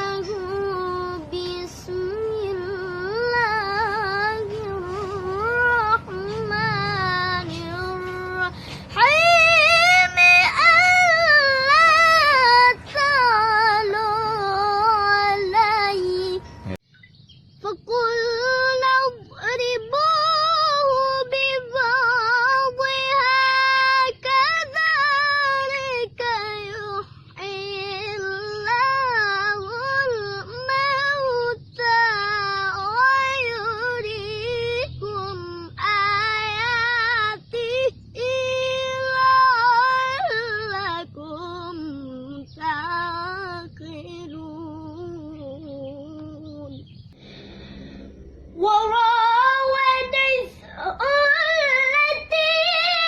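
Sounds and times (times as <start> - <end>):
boy reciting in melodic chant: 0.0 - 16.8, 17.6 - 47.0, 48.6 - 53.0.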